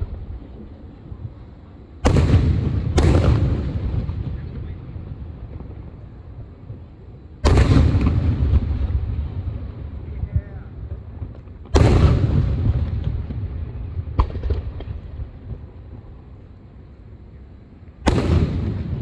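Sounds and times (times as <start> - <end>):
fireworks booming: 0.0 - 16.4, 18.0 - 19.0.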